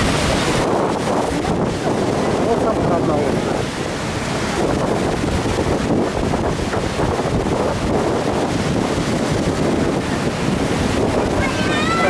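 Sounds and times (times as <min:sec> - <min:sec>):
surf breaking on rocks: 0:00.0 - 0:12.0
wind buffeting microphone: 0:00.0 - 0:12.0.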